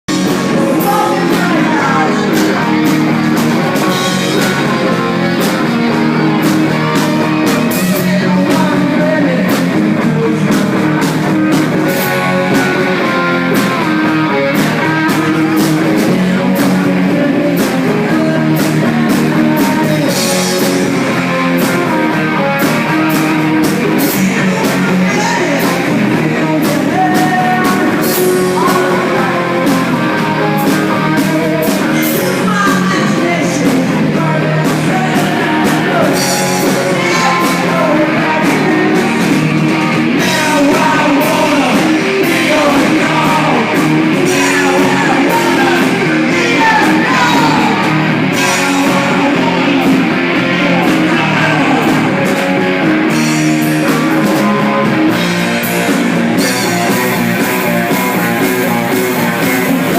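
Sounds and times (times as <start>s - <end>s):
person singing: 0.0s - 57.0s, 57.6s - 59.9s
drum kit: 0.0s - 59.9s
electric guitar: 0.0s - 59.9s.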